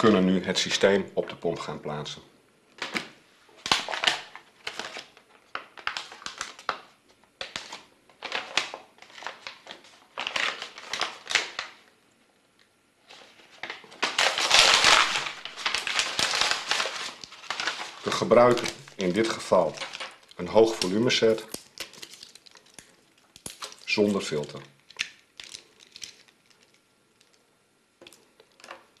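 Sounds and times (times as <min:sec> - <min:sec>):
plastic packaging crinkling: 0:02.8 - 0:11.9, 0:13.0 - 0:27.4, 0:28.0 - 0:29.0.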